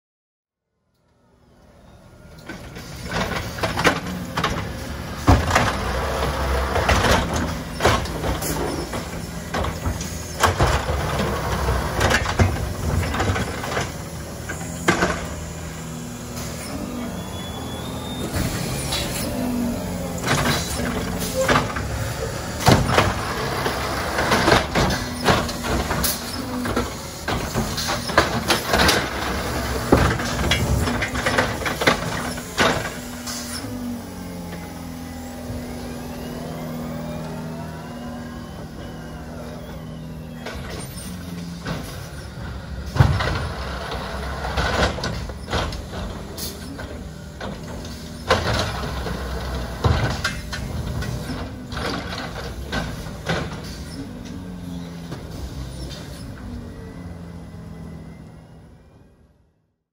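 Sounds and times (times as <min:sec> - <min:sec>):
electric hydraulic hum: 0:01.0 - 0:59.1
garbage truck clunks and bangs: 0:02.4 - 0:58.8.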